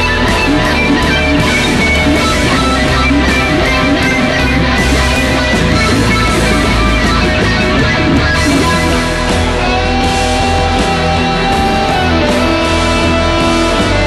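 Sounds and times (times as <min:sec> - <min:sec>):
electric guitar playing: 0:00.0 - 0:14.0
psychedelic rock music: 0:00.0 - 0:14.0.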